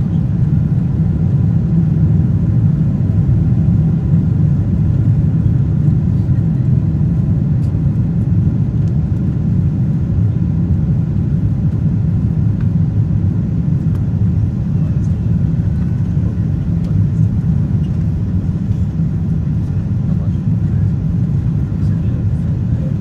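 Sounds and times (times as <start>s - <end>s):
airliner cabin drone: 0.0s - 23.0s.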